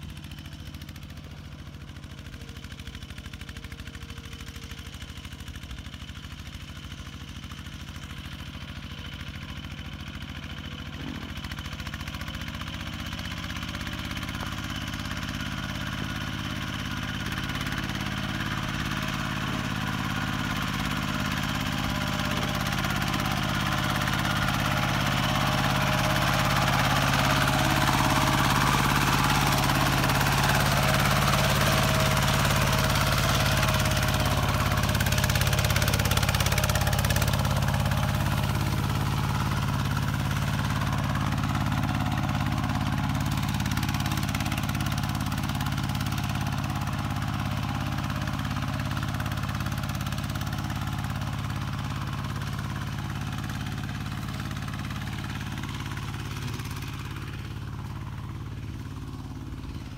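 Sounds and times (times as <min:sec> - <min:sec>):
diesel tractor engine chugging: 0:00.0 - 0:59.9.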